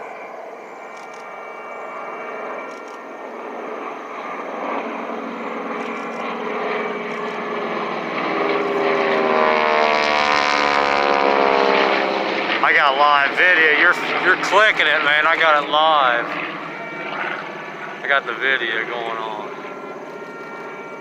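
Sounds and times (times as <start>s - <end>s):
propeller planes flying past: 0.0s - 21.0s.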